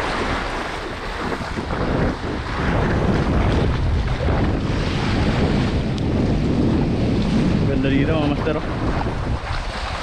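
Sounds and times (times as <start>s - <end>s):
sea waves washing: 0.0s - 10.0s
wind buffeting microphone: 0.0s - 10.0s.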